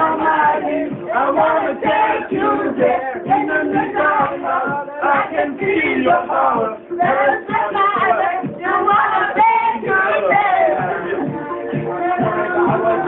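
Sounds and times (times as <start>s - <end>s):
man and woman singing: 0.0s - 13.0s
music: 0.0s - 13.0s.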